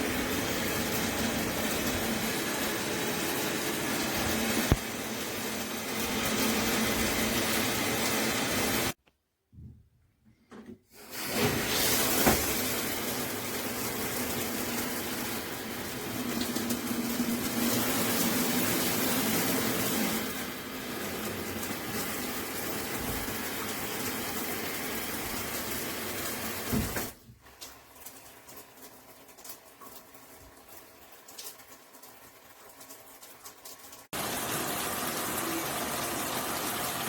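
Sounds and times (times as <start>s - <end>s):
shower head spraying water: 0.0s - 9.0s, 11.0s - 29.6s, 33.6s - 37.0s.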